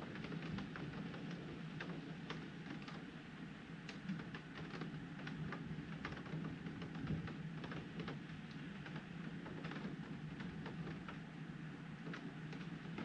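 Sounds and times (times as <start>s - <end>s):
raindrops ticking on window: 0.1s - 3.1s, 3.9s - 11.2s, 12.0s - 13.0s.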